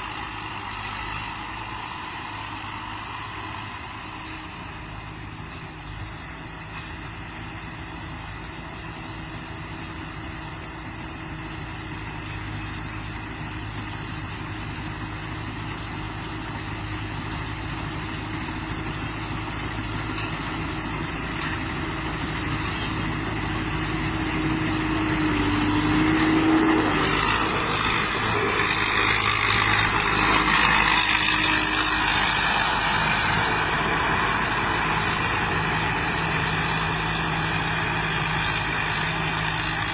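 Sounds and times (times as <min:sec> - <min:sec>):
bright machinery noise: 0:00.0 - 0:39.9
combine harvester engine running: 0:00.0 - 0:39.9.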